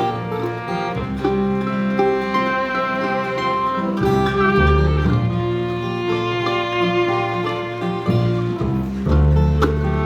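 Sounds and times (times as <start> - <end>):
acoustic band playing: 0.0 - 10.0
guitar: 0.0 - 10.0
long held melody notes: 0.0 - 10.0.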